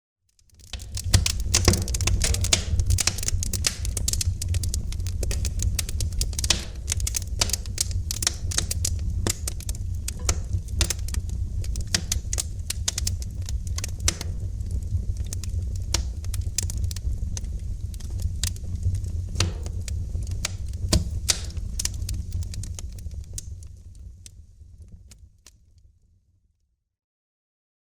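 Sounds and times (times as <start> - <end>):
wood fire crackling: 0.3 - 25.8.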